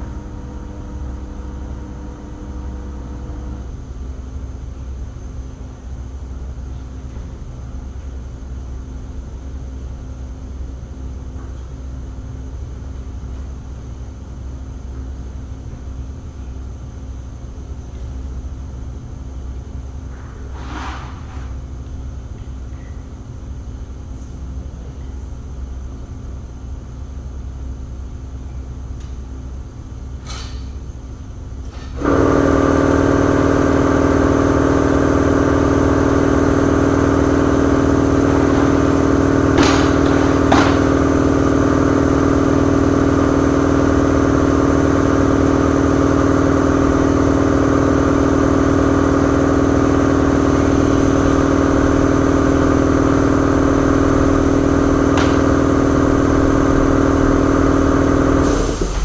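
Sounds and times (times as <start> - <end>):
machine running with hum: 0.0 - 20.7, 21.8 - 59.0.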